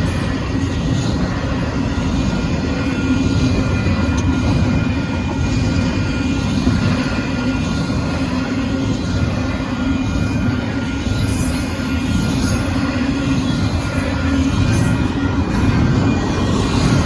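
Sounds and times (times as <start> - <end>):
thin steady ringing tone: 0.0 - 17.0
train wheels rumbling on rail: 0.0 - 17.0.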